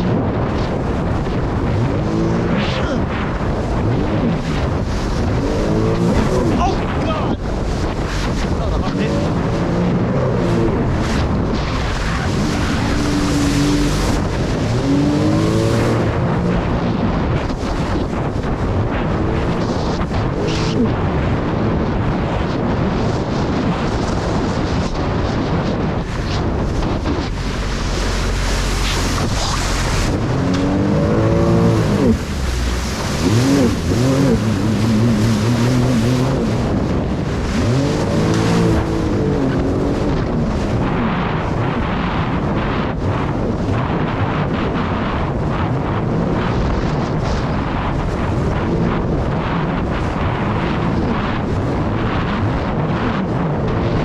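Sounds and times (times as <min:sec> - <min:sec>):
jet ski engine running: 0:00.0 - 0:54.0
wind and water spray: 0:00.0 - 0:54.0.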